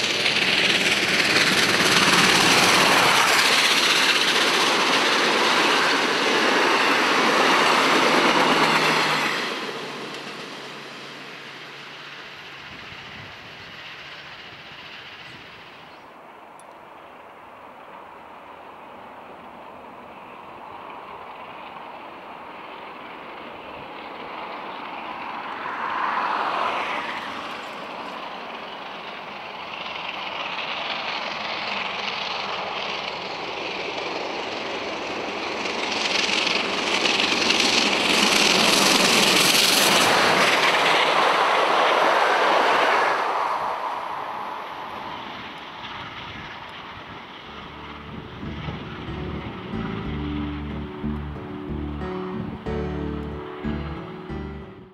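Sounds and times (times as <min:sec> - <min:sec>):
steam locomotive passing: 0:00.0 - 0:54.9.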